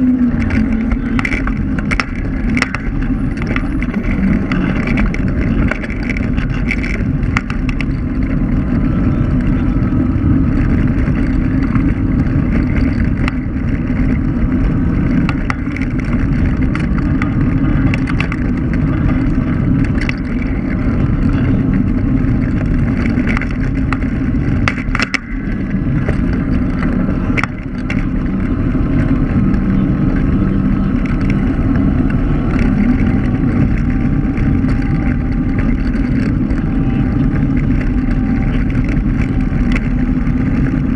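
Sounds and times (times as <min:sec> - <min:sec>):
small clicks and rattles: 0:00.0 - 0:40.9
wind and road rumble: 0:00.0 - 0:40.9.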